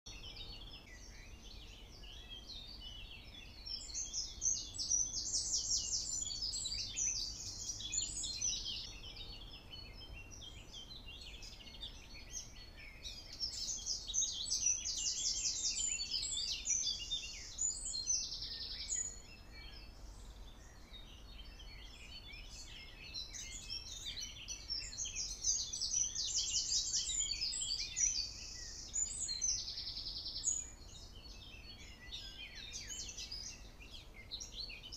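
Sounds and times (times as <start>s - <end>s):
faint bird chirps: 0.1s - 34.9s
songbird trilling song: 0.1s - 34.9s.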